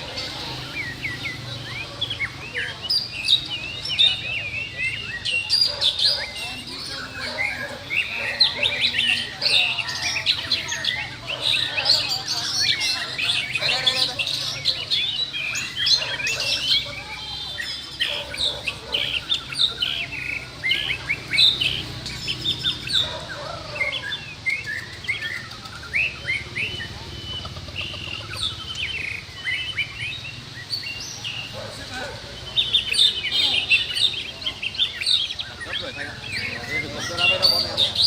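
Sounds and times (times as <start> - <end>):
birds singing whistles and chirps: 0.0 - 38.0.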